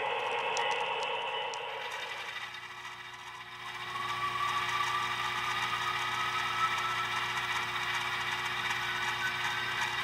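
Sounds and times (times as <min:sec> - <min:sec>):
model diesel engine sound: 0:00.0 - 0:10.0
rising whine: 0:00.0 - 0:10.0.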